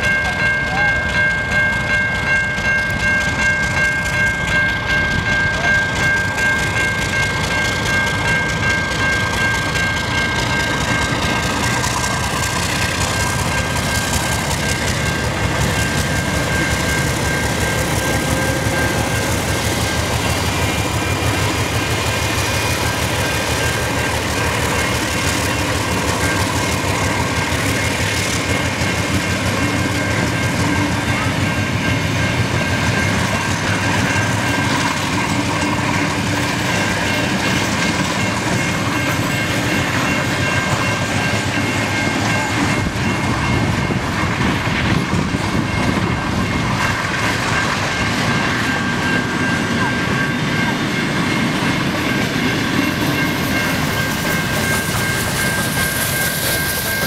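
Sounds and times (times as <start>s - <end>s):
diesel locomotive passing: 0.0s - 57.0s
train wheels clattering on rails: 0.0s - 57.0s.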